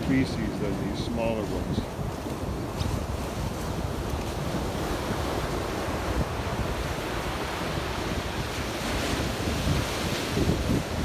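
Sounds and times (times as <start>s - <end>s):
ocean surf on beach: 0.0s - 11.0s
wind rumbling on microphone: 0.0s - 11.0s.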